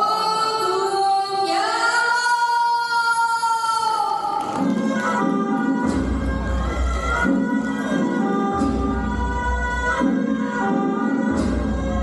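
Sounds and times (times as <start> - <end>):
music with woman singing: 0.0 - 12.0.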